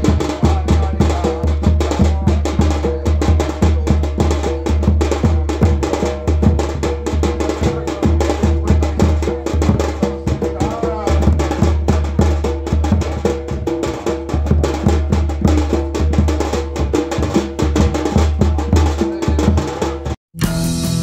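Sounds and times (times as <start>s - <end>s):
barrel drum booming: 0.0s - 20.2s.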